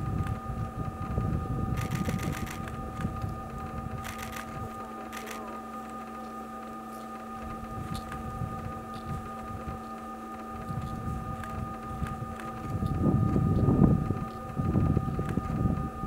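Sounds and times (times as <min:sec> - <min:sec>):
low fluctuating rumble: 0:00.0 - 0:04.8, 0:07.4 - 0:16.0
mechanical hum: 0:00.0 - 0:16.0.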